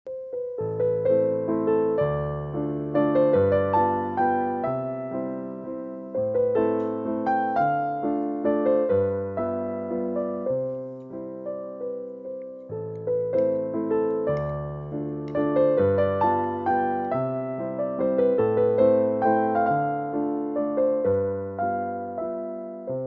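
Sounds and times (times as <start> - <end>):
gentle piano music: 0.1 - 23.0.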